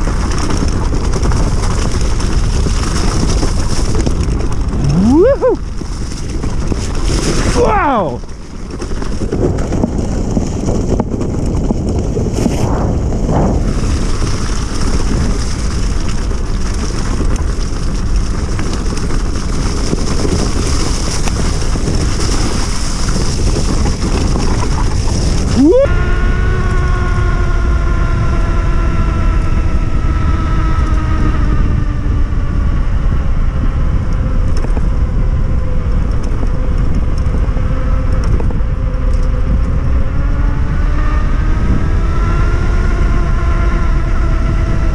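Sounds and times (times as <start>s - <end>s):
electric hub motor whine: 0.0s - 44.9s
wind and road noise: 0.0s - 44.9s.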